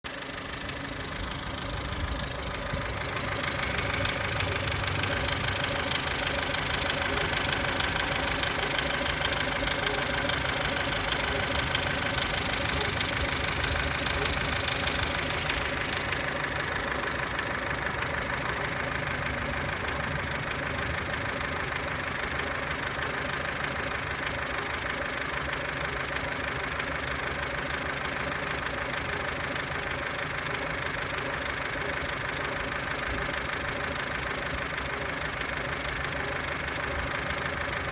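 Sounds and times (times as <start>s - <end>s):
car engine running: 0.0s - 37.9s
fast steady engine ticking: 0.0s - 37.9s.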